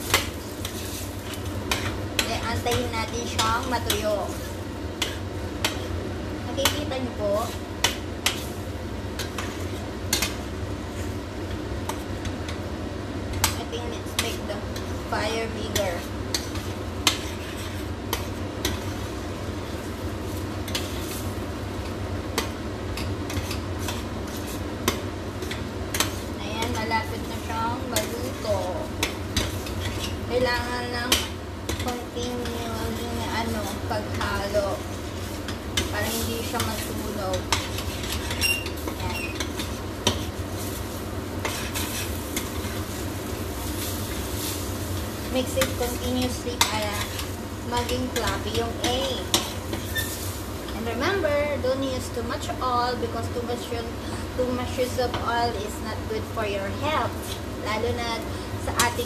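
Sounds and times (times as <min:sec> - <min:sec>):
spatula stirring in frying pan: 0:00.0 - 0:52.6, 0:56.7 - 0:59.0
steady background hum: 0:00.0 - 0:59.0.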